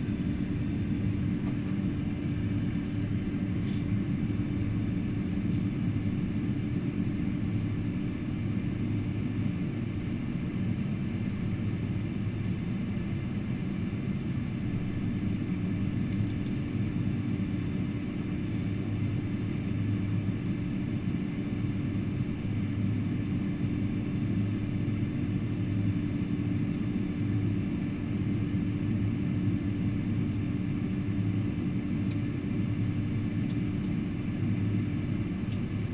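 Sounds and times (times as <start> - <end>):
airplane cabin rumble: 0.0 - 35.9
constant hum: 0.0 - 35.9.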